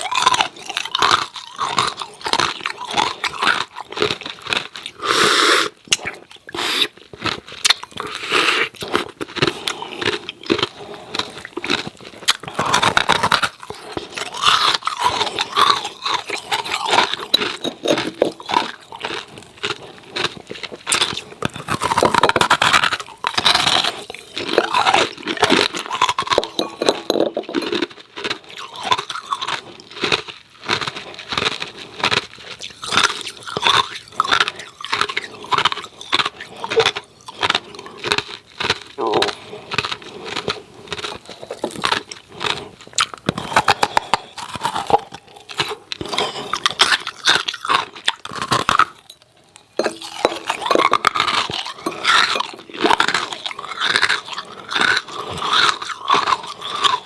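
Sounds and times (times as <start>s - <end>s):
person crunching ice cubes: 0.0s - 57.0s.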